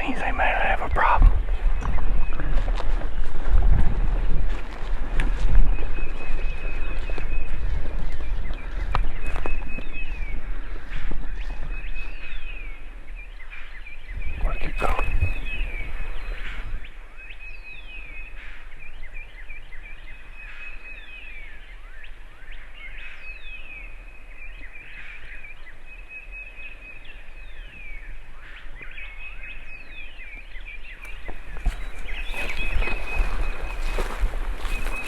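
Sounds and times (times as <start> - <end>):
birds singing: 0.0 - 35.0.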